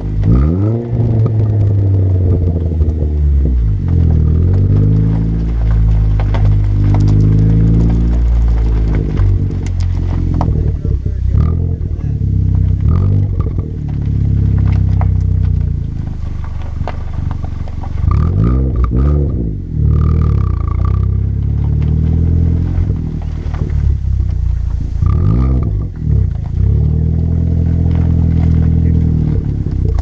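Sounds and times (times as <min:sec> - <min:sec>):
car engine droning and revving: 0:00.0 - 0:30.0.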